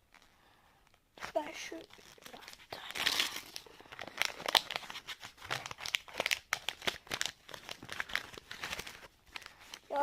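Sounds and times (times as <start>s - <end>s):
foil packet crinkling and tearing: 1.2s - 10.0s.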